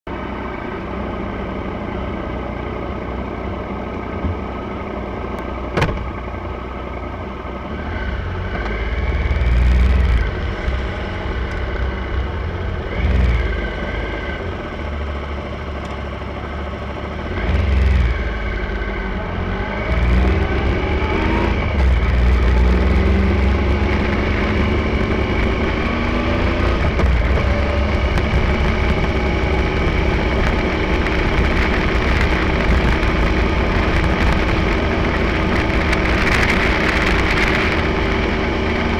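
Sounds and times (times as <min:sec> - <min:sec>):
motorcycle engines revving: 0:00.5 - 0:38.9.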